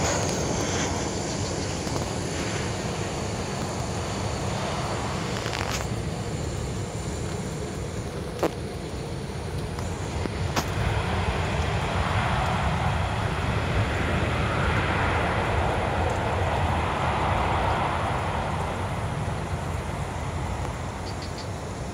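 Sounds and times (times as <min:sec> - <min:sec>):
distant jet noise: 0:00.0 - 0:21.9
steady low rumble: 0:00.0 - 0:21.9.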